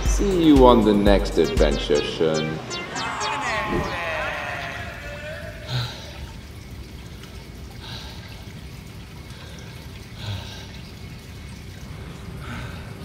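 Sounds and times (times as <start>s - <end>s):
pool water lapping and trickling: 1.4s - 13.0s.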